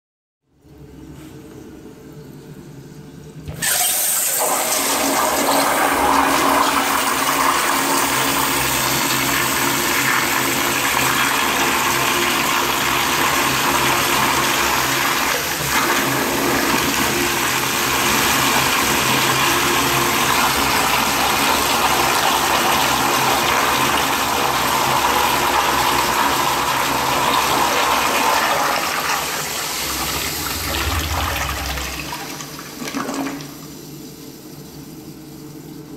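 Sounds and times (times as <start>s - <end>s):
toilet flushing: 3.2s - 35.9s.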